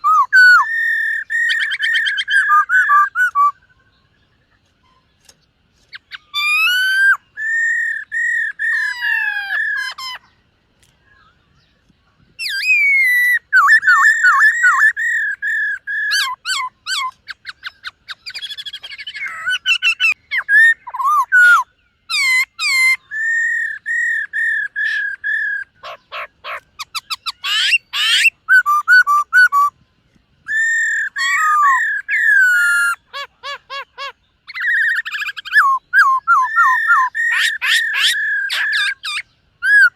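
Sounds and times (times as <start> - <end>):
bird singing whistled phrases: 0.0 - 4.1, 5.9 - 10.3, 12.4 - 29.8, 30.4 - 39.9.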